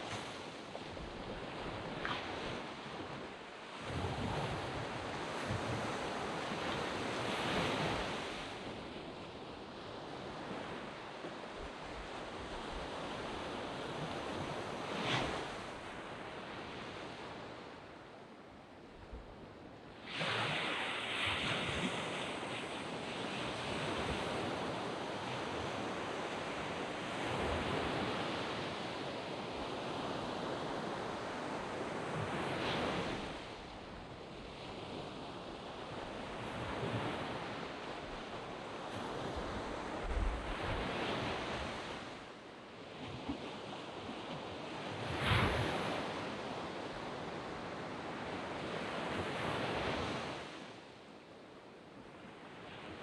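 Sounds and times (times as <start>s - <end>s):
waves breaking on beach: 0.0s - 17.8s, 19.9s - 50.8s.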